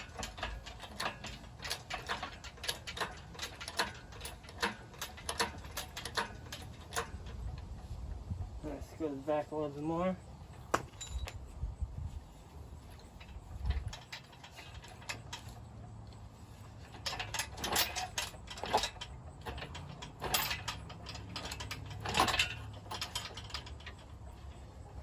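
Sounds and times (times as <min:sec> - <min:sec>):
metal lifting gear ratcheting: 0:00.0 - 0:25.0.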